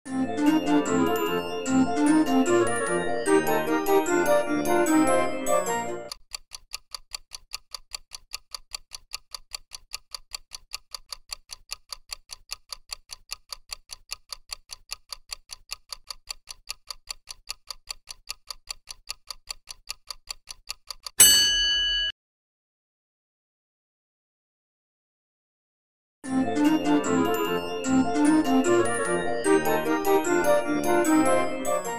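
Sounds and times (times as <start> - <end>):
timer ticking: 0.4 - 21.3, 26.6 - 31.9.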